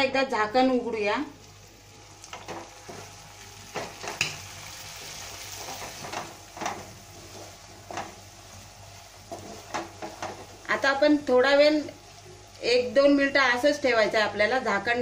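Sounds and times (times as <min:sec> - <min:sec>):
food sizzling in a pan: 0:00.1 - 0:15.0.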